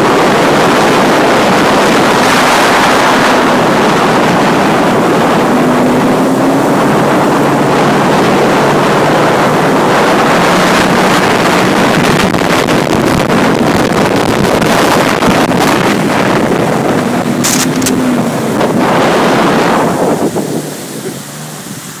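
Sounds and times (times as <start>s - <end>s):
personal watercraft engine hum: 0.0s - 22.0s
rushing water from wake: 0.0s - 22.0s
wind on microphone: 0.0s - 22.0s.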